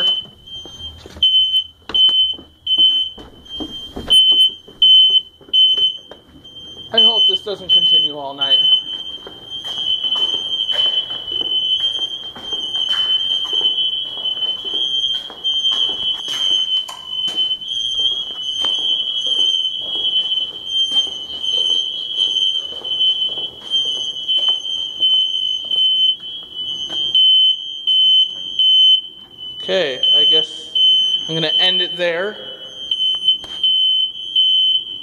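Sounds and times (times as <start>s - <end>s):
smoke alarms beeping: 0.0s - 35.0s.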